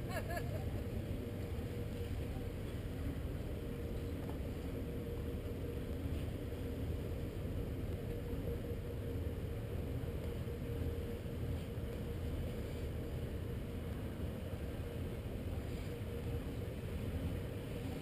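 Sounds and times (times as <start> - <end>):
boat engines rumbling: 0.0 - 18.0
faint steady hum: 0.0 - 18.0.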